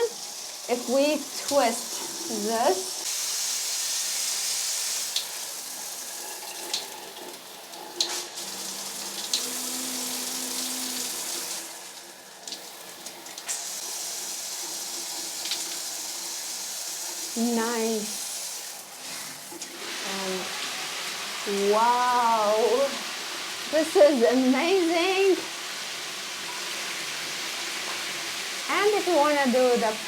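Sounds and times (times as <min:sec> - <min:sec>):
shower water spraying: 0:00.0 - 0:30.0.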